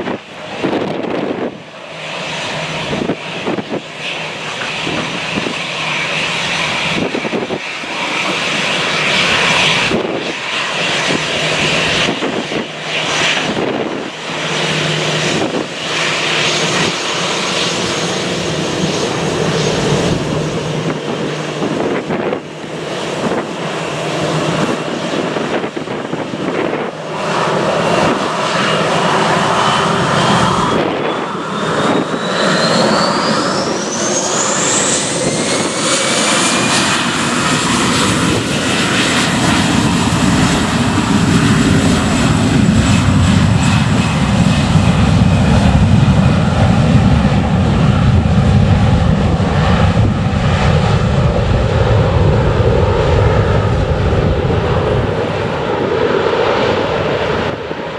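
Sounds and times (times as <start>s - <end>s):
jet engine whine spooling up: 0.0s - 57.9s
loud low jet rumble: 0.0s - 57.9s.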